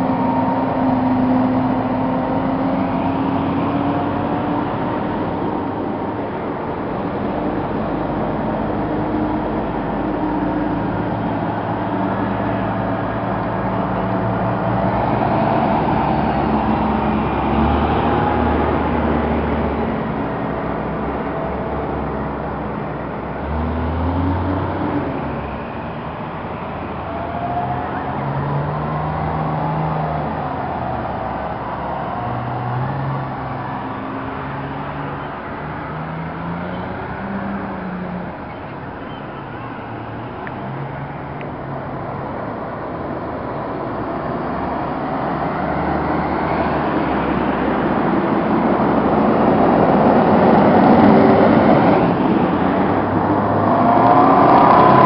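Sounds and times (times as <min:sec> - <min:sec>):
fire trucks driving past: 0:00.0 - 0:55.0.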